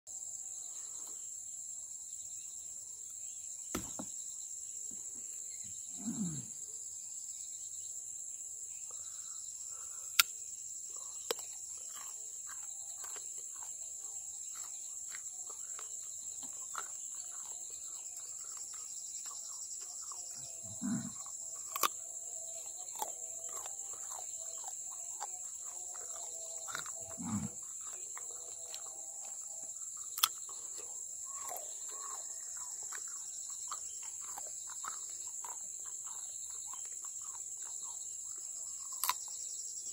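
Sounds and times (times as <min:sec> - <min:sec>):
insects droning: 0:00.1 - 0:39.9.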